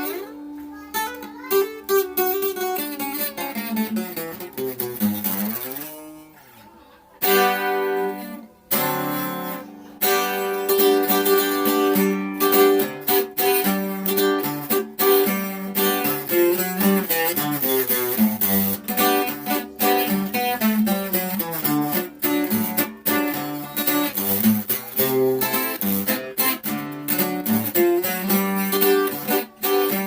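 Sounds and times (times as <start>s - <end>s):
strummed string instrument: 0.0s - 30.0s.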